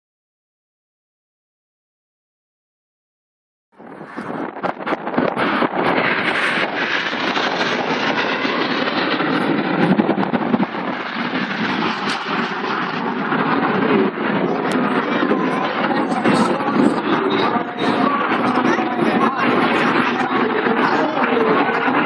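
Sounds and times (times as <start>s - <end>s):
jet engines roaring overhead: 3.8s - 22.0s.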